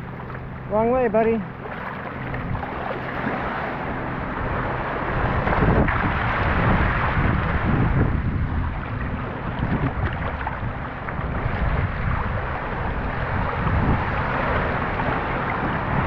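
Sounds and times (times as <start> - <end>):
small waves washing: 0.0 - 16.0
wind buffeting microphone: 0.0 - 16.0.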